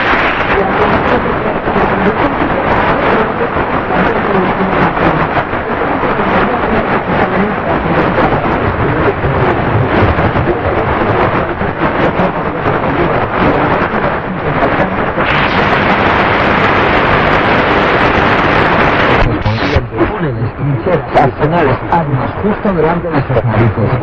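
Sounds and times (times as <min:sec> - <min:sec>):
faint radio broadcast: 0:00.0 - 0:24.0
shortwave static hiss: 0:00.0 - 0:24.0.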